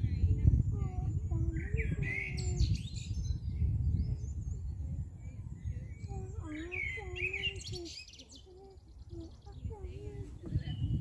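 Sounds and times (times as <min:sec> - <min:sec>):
songbirds singing: 0:00.0 - 0:11.0
wind rumble on microphone: 0:00.0 - 0:11.0.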